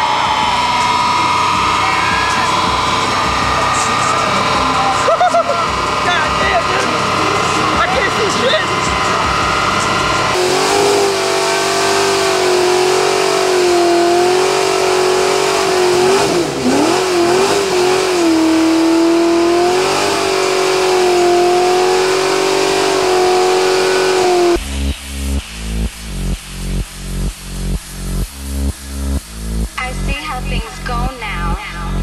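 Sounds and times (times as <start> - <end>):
car engine at high revs: 0.0 - 31.1
electronic music with pulsing beat: 0.0 - 32.0.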